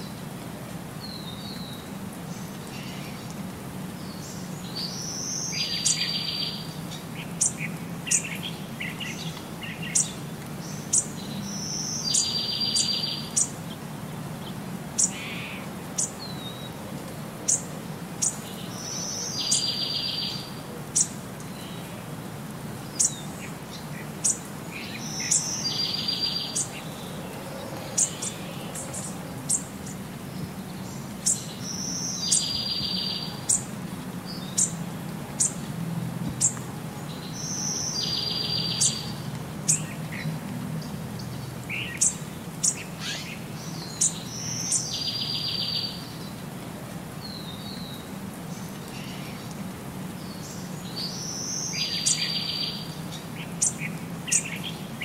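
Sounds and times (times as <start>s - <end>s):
birds chirping: 4.0s - 16.8s, 17.5s - 22.0s, 22.7s - 35.6s, 36.3s - 46.4s, 50.2s - 55.0s.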